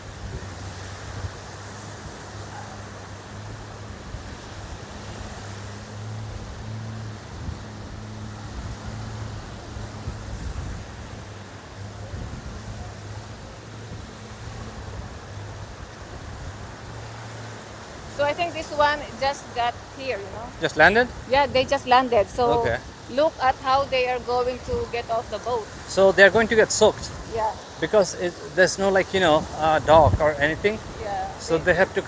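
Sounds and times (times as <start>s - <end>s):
boat engine running: 0.0s - 32.0s
waves washing on beach: 0.0s - 32.0s
wind on microphone: 0.0s - 32.0s.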